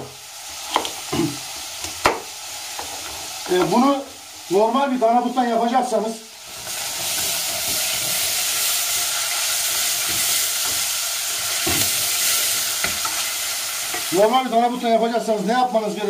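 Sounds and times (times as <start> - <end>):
meat and onion sizzling in oil: 0.0 - 16.0.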